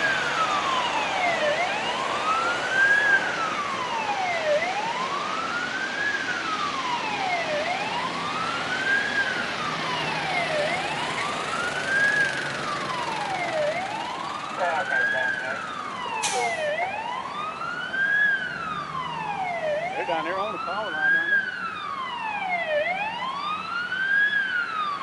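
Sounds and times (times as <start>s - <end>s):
emergency vehicle siren wailing: 0.0s - 25.0s
passing traffic rushing: 0.0s - 25.0s.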